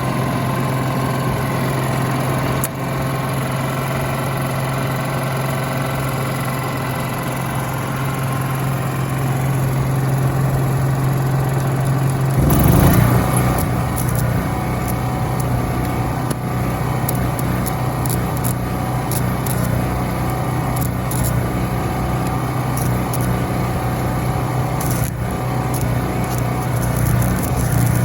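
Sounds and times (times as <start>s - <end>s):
welder generator engine drone: 0.0s - 28.0s.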